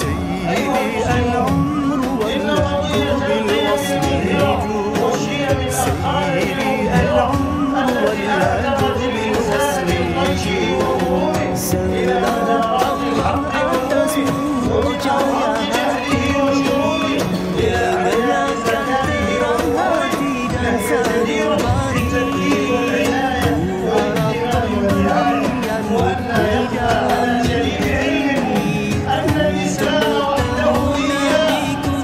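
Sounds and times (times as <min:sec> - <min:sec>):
middle eastern style song: 0:00.0 - 0:32.0.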